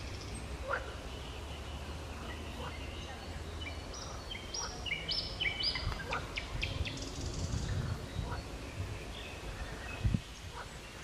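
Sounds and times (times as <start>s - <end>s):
steady low rumble: 0.0s - 10.6s
birds calling and singing: 0.0s - 11.0s.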